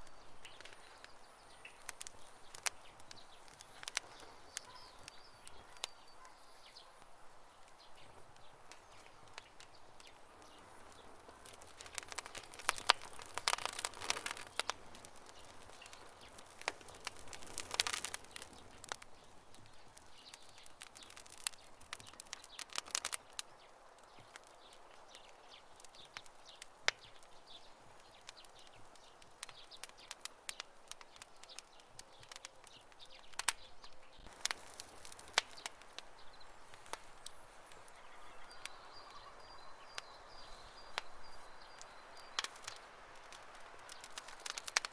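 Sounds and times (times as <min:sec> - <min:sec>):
campfire crackling: 0:00.0 - 0:44.9
soft fire hiss: 0:00.0 - 0:44.9.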